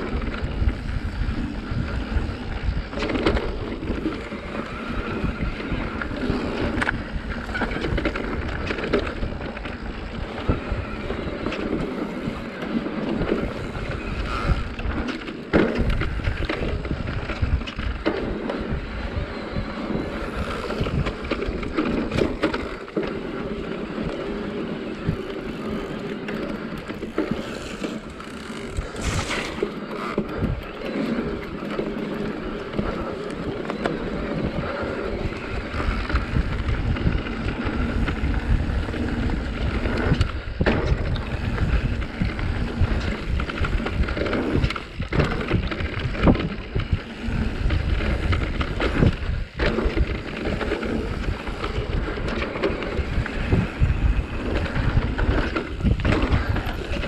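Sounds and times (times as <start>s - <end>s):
bike clattering over bumps: 0.0s - 57.0s
bike tyres rolling over dirt: 0.0s - 57.0s
wind rumble on camera: 0.0s - 57.0s.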